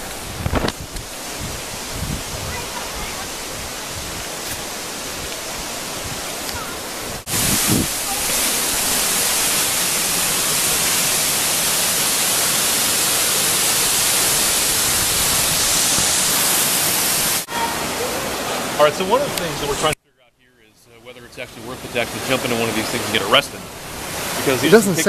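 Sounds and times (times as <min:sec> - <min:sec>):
waterfall rushing: 0:00.0 - 0:20.0, 0:21.0 - 0:25.0.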